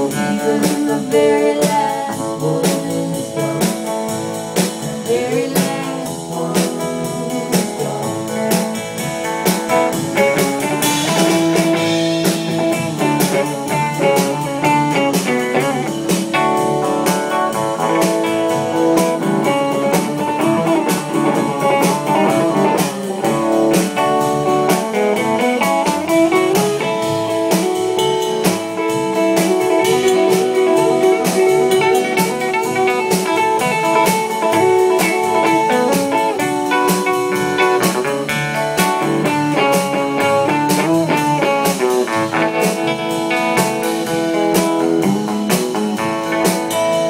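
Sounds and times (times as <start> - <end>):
blues band playing: 0.0 - 47.0
lead guitar: 0.0 - 47.0
steady drum beat: 0.0 - 47.0.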